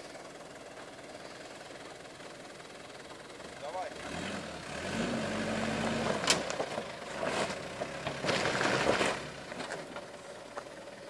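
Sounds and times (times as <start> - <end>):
engine running slowly: 0.0 - 11.0.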